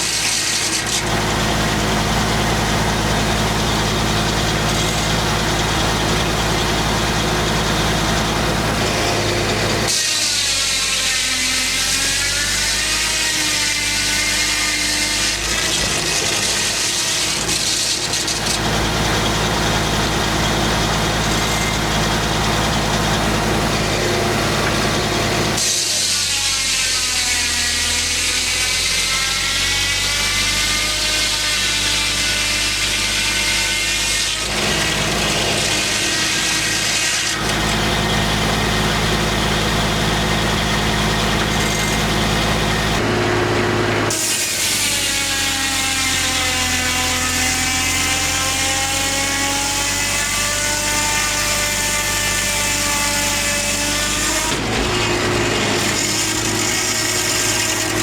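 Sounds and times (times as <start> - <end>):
saw blade whine: 0.0 - 58.0.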